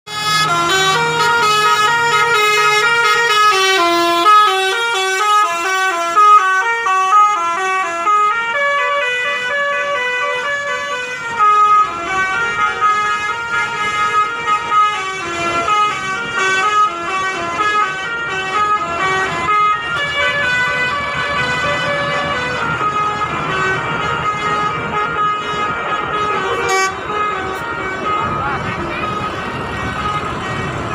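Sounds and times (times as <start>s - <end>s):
musical bus air horns: 0.1s - 30.9s.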